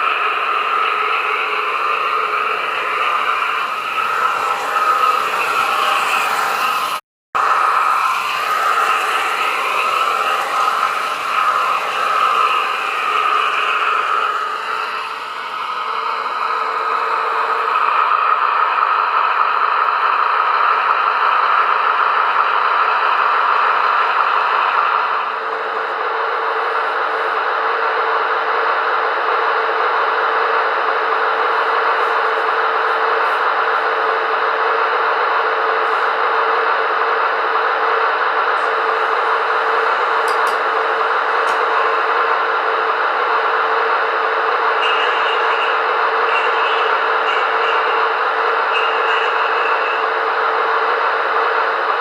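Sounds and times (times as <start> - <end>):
model train motor whirring: 0.0 - 27.4, 29.1 - 52.0
diesel engine sound effect: 0.0 - 52.0.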